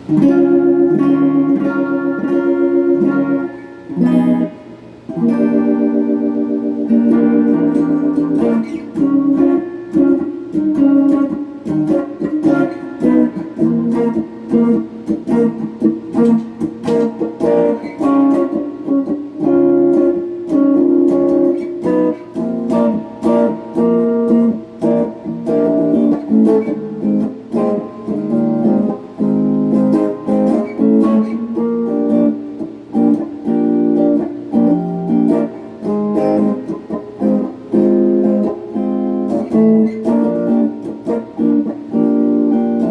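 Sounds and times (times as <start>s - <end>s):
electric guitar strumming chords: 0.0s - 42.9s.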